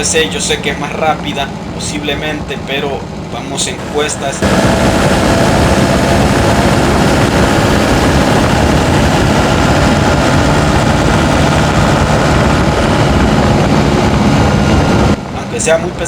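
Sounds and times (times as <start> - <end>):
road and wind noise: 0.0 - 16.0
truck engine under load: 0.0 - 16.0.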